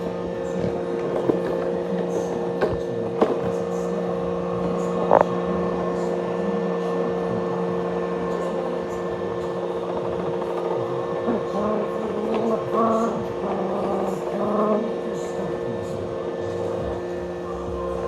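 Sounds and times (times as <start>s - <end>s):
robot vacuum motor hum: 0.0s - 18.0s.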